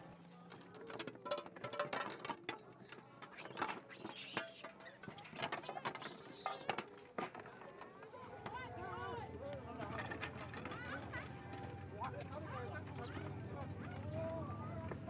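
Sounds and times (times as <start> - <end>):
monkeys clattering over food: 0.4 - 7.9, 9.5 - 14.5.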